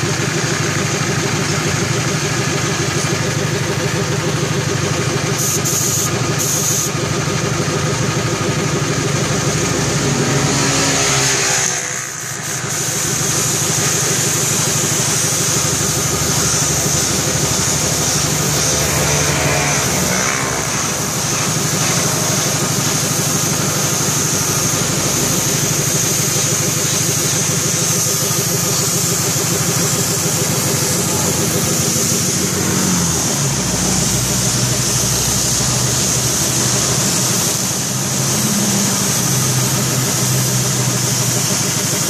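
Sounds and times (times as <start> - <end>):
small engine running steadily: 0.0 - 42.0.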